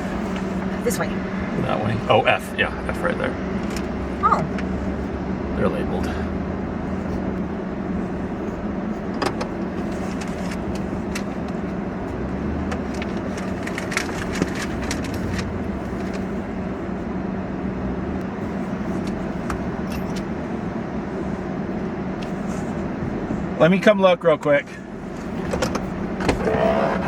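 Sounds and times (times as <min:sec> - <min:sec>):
car engine and road hum: 0:00.0 - 0:27.0.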